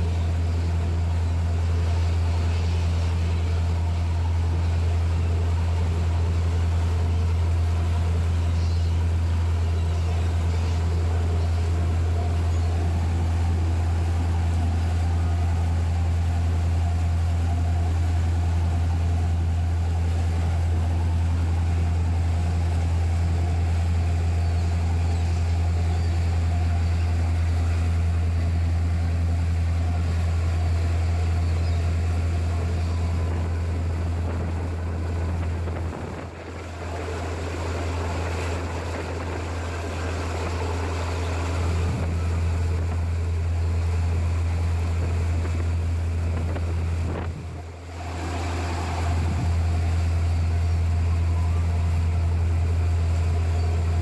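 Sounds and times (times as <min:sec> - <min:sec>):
boat engine droning: 0:00.0 - 0:54.0
wake rushing: 0:00.0 - 0:54.0
wind: 0:00.0 - 0:54.0.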